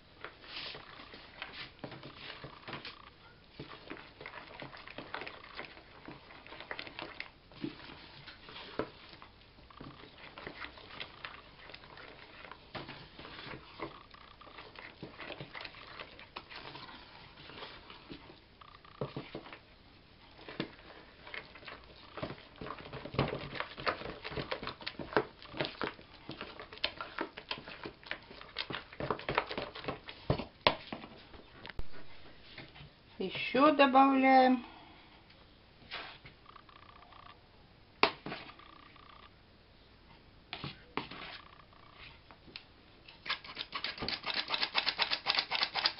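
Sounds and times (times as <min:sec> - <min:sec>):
spoon stirring dough in plastic bowl: 0:00.2 - 0:34.6, 0:38.0 - 0:39.3, 0:40.5 - 0:42.4, 0:43.1 - 0:45.9.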